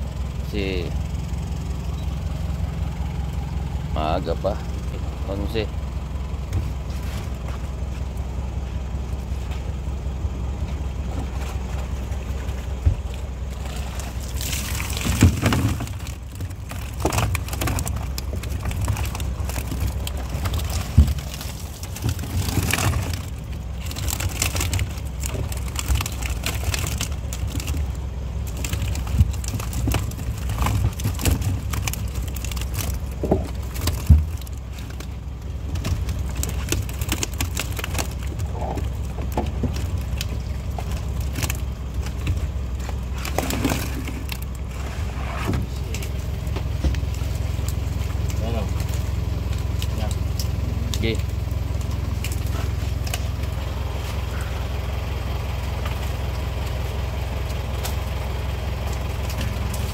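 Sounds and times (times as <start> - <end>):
low engine hum: 0.0 - 59.9
water splashing and sloshing: 6.0 - 59.9.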